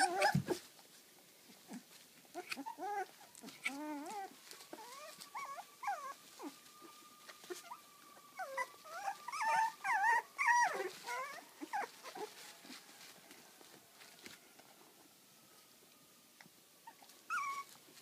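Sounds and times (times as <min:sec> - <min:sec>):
puppies whining and squealing: 0:00.0 - 0:00.7, 0:01.6 - 0:15.7, 0:16.8 - 0:18.0.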